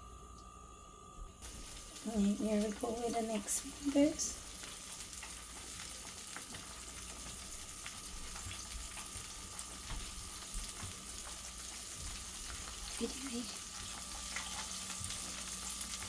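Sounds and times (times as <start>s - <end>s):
fish deep-frying in hot oil: 1.4s - 16.0s.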